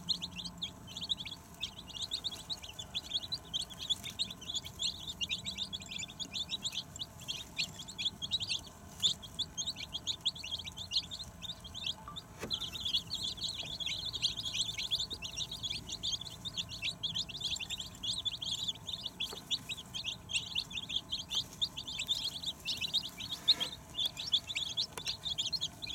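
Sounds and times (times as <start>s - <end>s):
chicks peeping: 0.0s - 25.9s.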